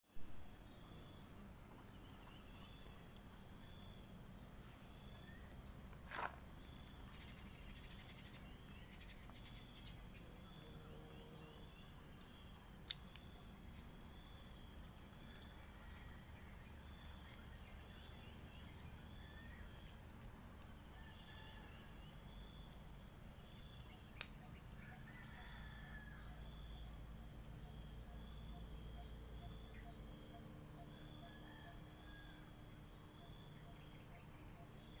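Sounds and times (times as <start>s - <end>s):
insects chirping: 0.1s - 35.0s.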